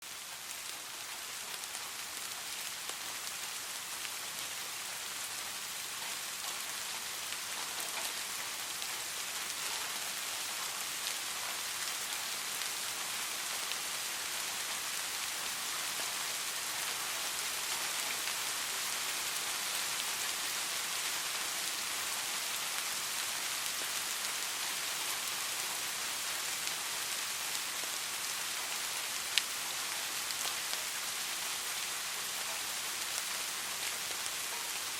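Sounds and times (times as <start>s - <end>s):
gentle rain pattering: 0.0s - 34.9s.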